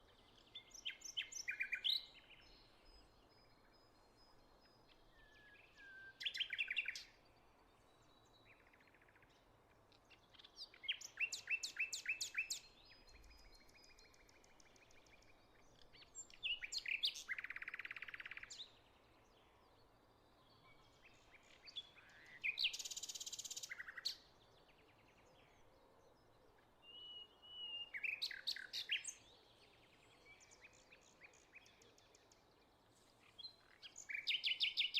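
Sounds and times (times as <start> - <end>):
faint outdoor hiss: 0.0 - 34.9
songbirds singing: 0.0 - 34.9.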